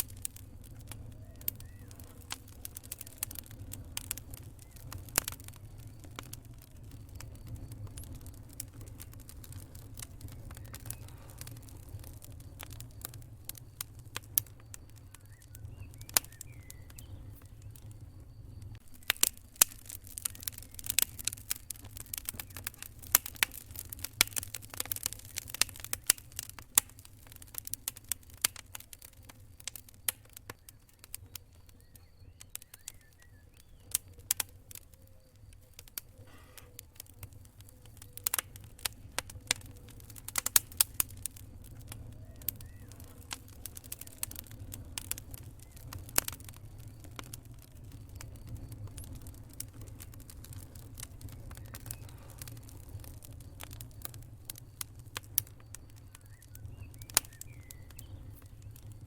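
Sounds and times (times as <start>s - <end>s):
campfire crackling and popping: 0.0s - 59.0s
low rumble of flames: 0.0s - 59.0s.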